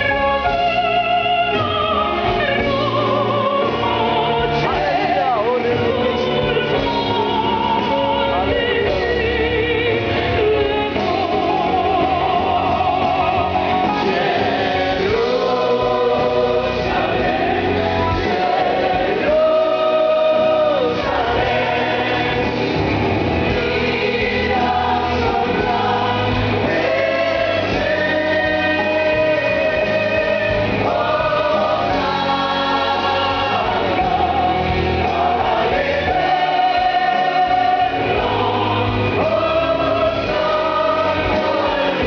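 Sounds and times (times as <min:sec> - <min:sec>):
choir singing in harmony: 0:00.0 - 0:42.0.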